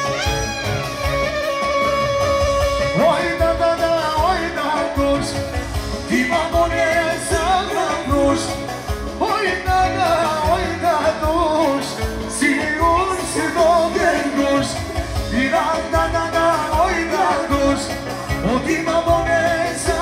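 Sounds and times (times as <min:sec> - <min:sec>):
live band playing dance music: 0:00.0 - 0:20.0
man singing into microphone: 0:02.7 - 0:20.0.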